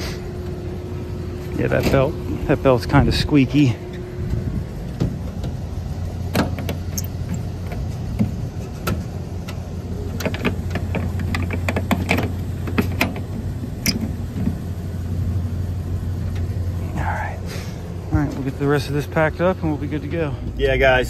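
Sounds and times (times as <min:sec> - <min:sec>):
hvac unit humming: 0:00.0 - 0:21.0.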